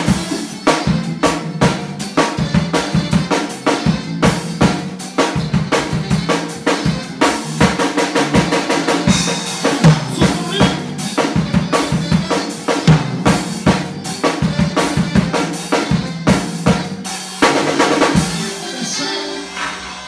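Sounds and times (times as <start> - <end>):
fast bass drum and snare: 0.0 - 18.6.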